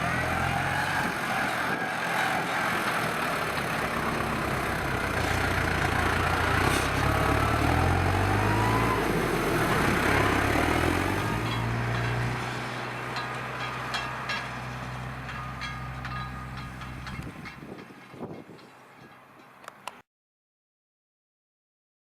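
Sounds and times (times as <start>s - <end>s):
tractor diesel engine under load: 0.0s - 18.5s.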